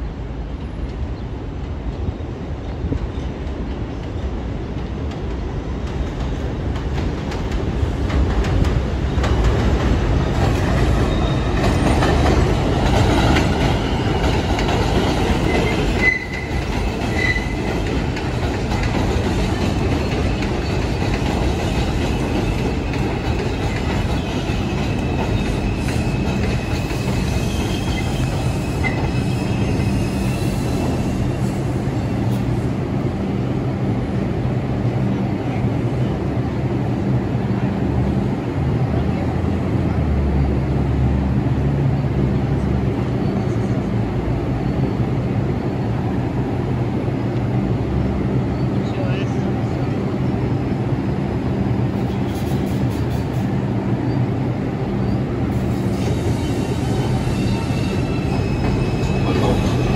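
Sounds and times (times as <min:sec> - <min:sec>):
subway train wheels on rails: 0:00.0 - 0:59.9.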